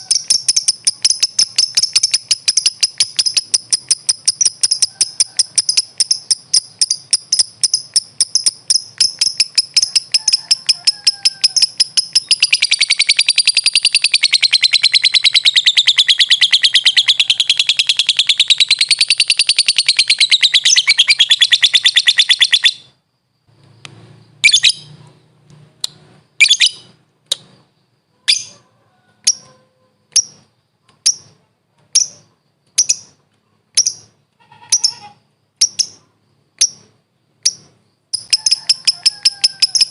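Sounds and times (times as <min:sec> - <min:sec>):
lovebird chattering trill: 0:00.0 - 0:23.0, 0:24.4 - 0:25.0, 0:26.4 - 0:28.6, 0:29.2 - 0:39.9
sharp bird chirps: 0:00.0 - 0:28.6, 0:29.2 - 0:39.9.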